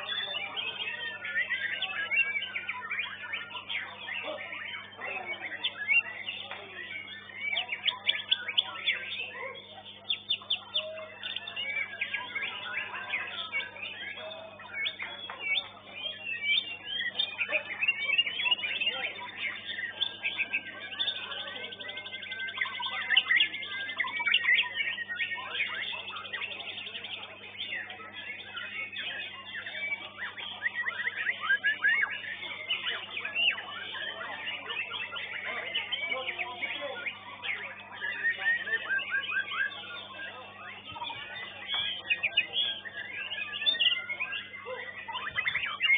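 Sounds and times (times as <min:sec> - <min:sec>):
songbirds singing: 0:00.0 - 0:45.9.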